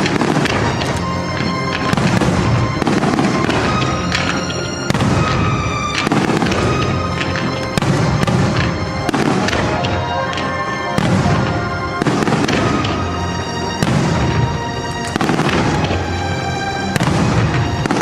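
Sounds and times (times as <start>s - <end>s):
fireworks booming: 0.0s - 18.0s
music: 0.0s - 18.0s.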